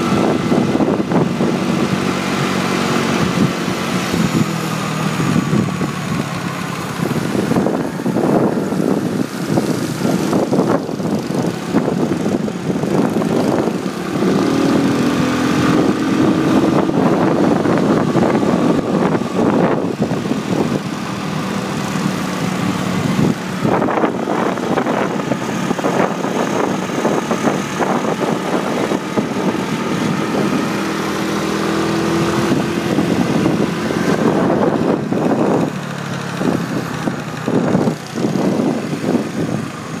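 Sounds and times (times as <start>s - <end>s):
motorbike engine running: 0.0s - 40.0s
wind buffeting microphone: 0.0s - 40.0s
wind rushing: 6.9s - 40.0s.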